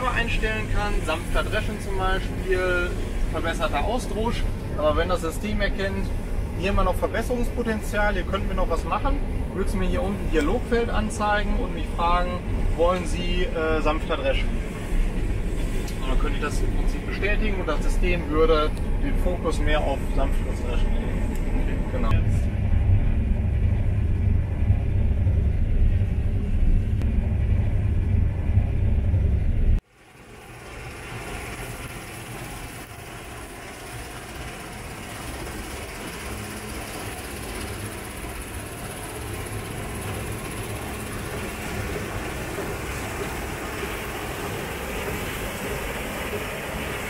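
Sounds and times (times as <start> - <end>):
combine harvester low drone: 0.0 - 47.0
combine harvester rushing noise: 0.0 - 47.0.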